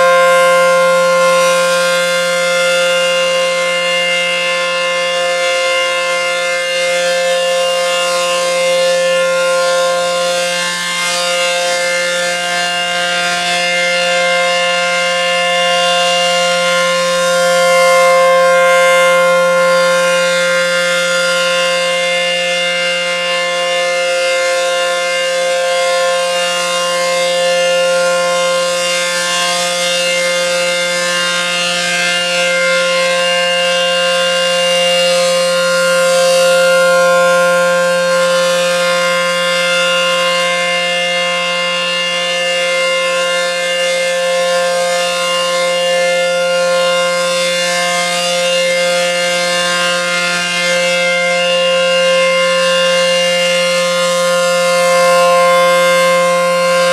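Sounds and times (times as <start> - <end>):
outdoor warning siren: 0.0 - 56.9.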